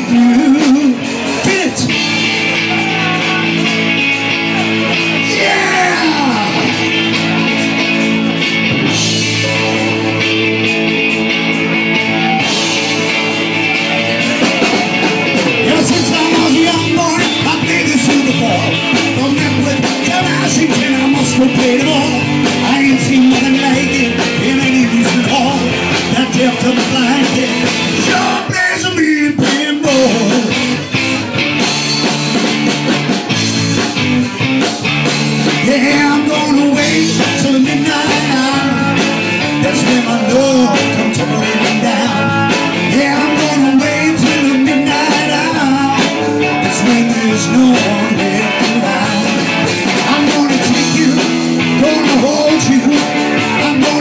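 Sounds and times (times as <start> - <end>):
man singing lead: 0.0 - 30.9, 35.4 - 54.0
live rock band playing: 0.0 - 54.0.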